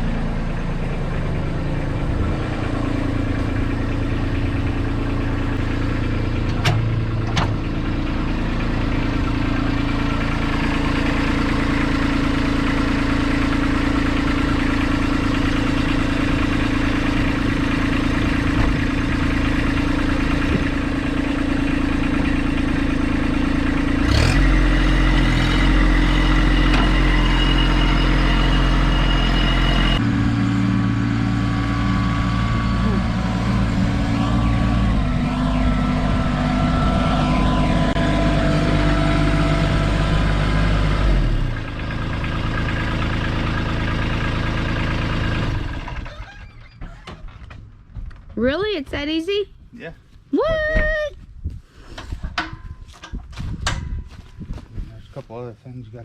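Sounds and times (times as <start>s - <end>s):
engine running at low speed: 0.0s - 56.0s.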